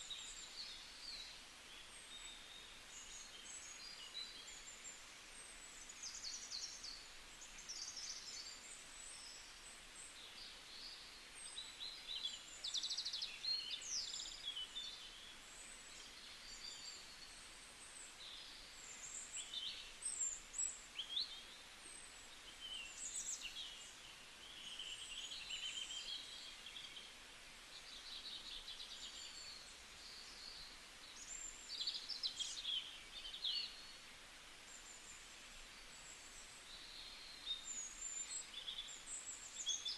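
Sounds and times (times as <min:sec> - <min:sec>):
faint background hiss: 0:00.0 - 0:39.9
small birds chirping and trilling: 0:00.0 - 0:39.9.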